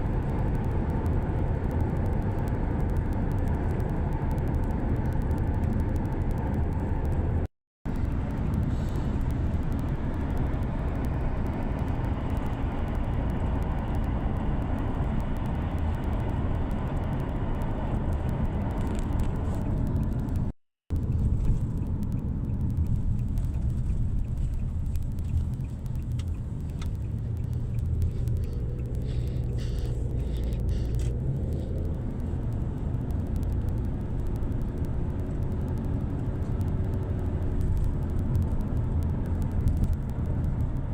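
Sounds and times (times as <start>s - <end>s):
low rumble of road vehicle: 0.0s - 40.9s.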